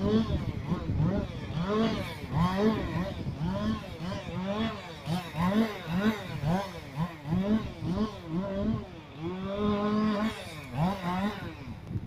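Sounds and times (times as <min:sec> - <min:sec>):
chainsaw revving: 0:00.0 - 0:12.0.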